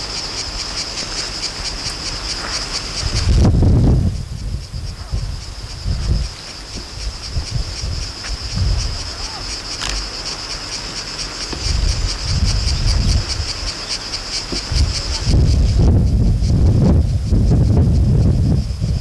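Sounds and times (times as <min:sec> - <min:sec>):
insects chirring: 0:00.0 - 0:19.0
wind gusts on microphone: 0:00.0 - 0:19.0.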